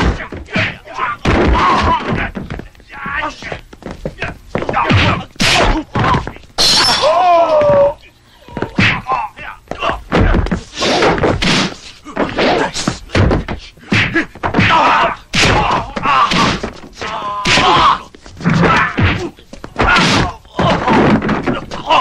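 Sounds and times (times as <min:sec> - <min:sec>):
bodies hitting furniture: 0:00.0 - 0:06.4, 0:07.6 - 0:22.0
heavy thuds of blows: 0:00.0 - 0:06.8, 0:07.5 - 0:22.0
people grunting and shouting: 0:00.0 - 0:22.0.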